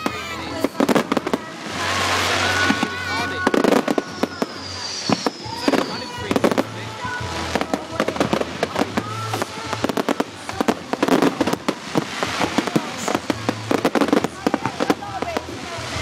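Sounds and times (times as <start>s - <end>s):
fireworks banging and crackling: 0.0s - 16.0s
music playing: 0.0s - 16.0s.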